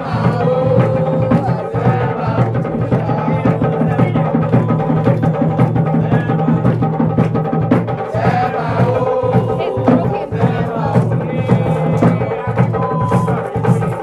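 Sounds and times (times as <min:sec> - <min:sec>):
drum percussion music: 0:00.0 - 0:14.0.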